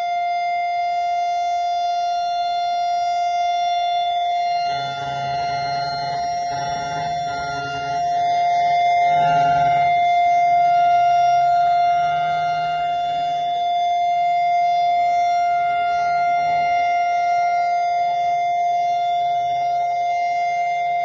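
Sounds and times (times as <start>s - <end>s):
siren steady tone: 0.0s - 21.0s.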